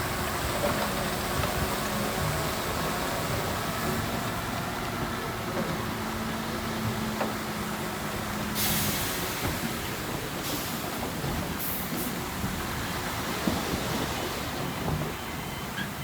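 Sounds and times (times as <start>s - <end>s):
diesel engine of heavy machinery: 0.0s - 16.0s.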